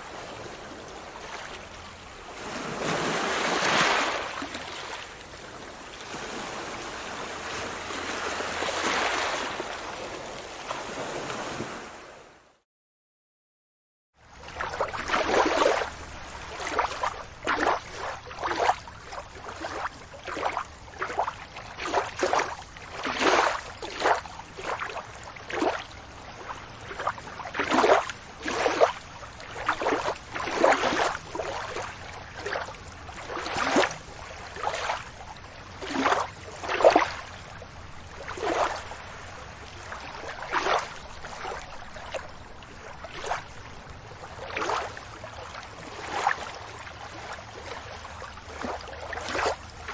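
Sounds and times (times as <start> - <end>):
small waves lapping: 0.0 - 12.6, 14.2 - 49.9
steady wash of water: 0.0 - 12.6, 14.2 - 49.9.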